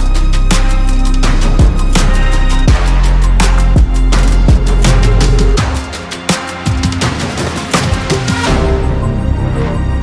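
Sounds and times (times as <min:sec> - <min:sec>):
hard-hitting drum beat: 0:00.0 - 0:08.5
electronic music with heavy bass: 0:00.0 - 0:10.0.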